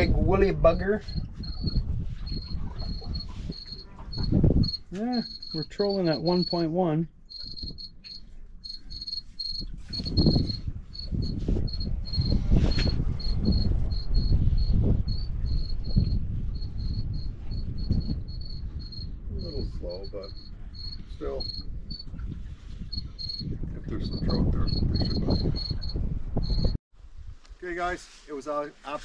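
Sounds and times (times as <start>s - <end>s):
wind rumble: 0.0s - 28.0s
cricket chirping: 0.7s - 22.2s, 22.8s - 26.8s.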